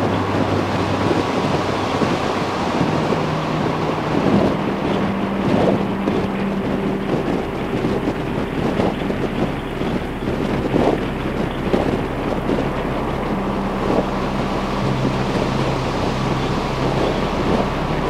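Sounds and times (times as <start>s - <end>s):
low hum shifting pitch: 0.0s - 18.0s
motorcycle engine droning: 0.0s - 18.0s
wind rushing over microphone: 0.0s - 18.0s.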